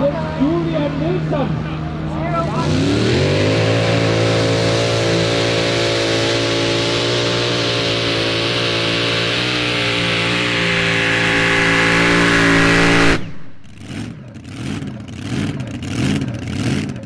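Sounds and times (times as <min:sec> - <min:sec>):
engine whine: 0:00.0 - 0:15.7
tractor engine at full throttle: 0:00.0 - 0:17.0
engine revving up and down: 0:00.8 - 0:17.0.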